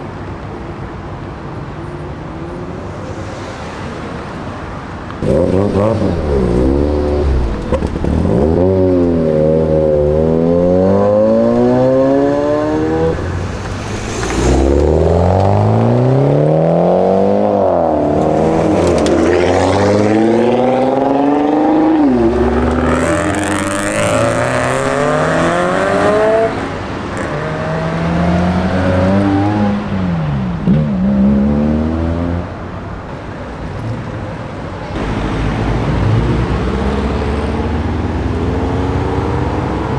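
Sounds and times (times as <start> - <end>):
car engines revving: 1.8 - 39.9.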